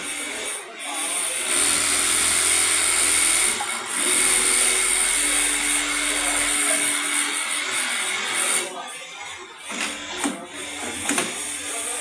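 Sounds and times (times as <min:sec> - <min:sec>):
sewing machine whirring: 0:00.0 - 0:12.0.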